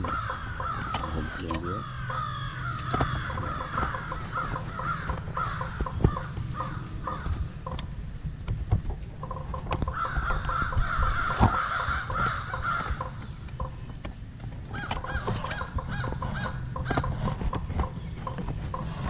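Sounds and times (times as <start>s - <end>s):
harsh animal calls: 0.0s - 8.4s, 9.0s - 19.0s.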